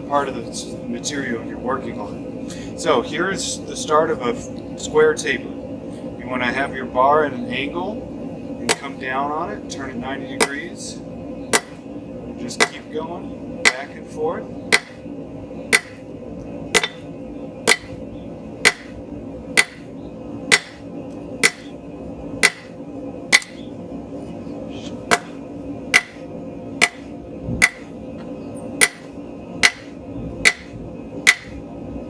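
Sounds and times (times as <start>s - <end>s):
forge humming: 0.0s - 32.0s.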